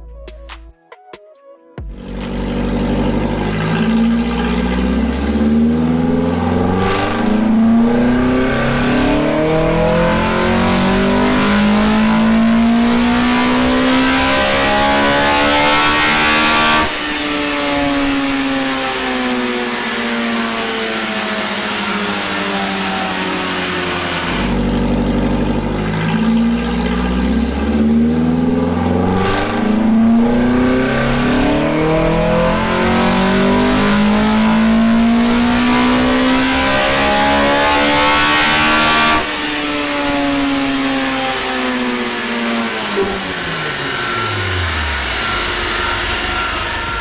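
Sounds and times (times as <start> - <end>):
car engine revving on dyno: 1.9 - 47.0.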